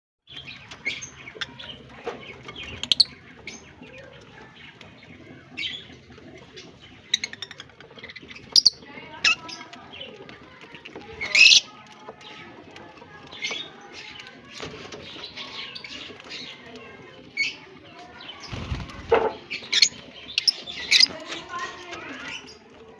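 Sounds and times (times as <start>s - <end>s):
lovebirds chirping: 0.3s - 22.9s.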